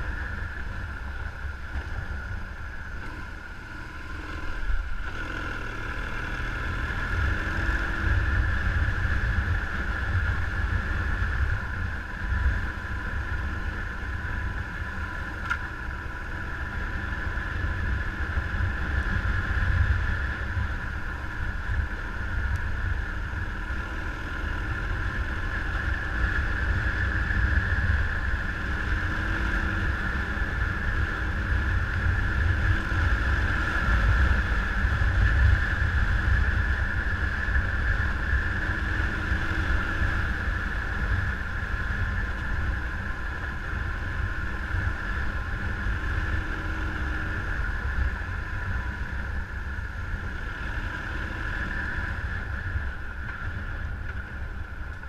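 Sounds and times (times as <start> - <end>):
motorcycle engine drone: 0.0 - 55.0
wind rumble on microphone: 0.0 - 55.0.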